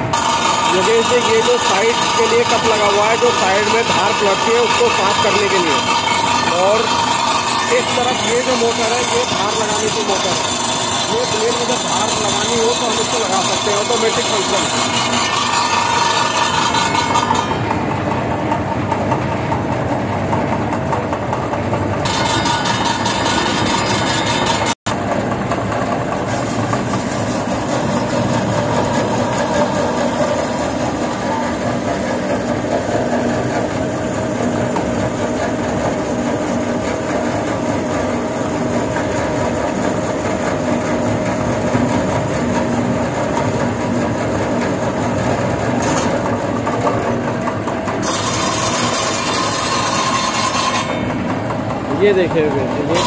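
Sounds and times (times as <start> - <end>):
cutting machine humming: 0.0 - 53.0.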